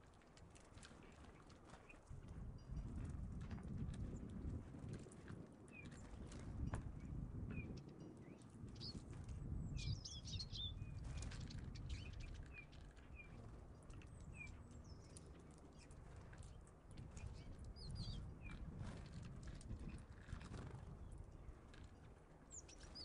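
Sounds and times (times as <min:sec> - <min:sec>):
small songbirds chirping: 0:00.6 - 0:05.0, 0:05.7 - 0:23.0.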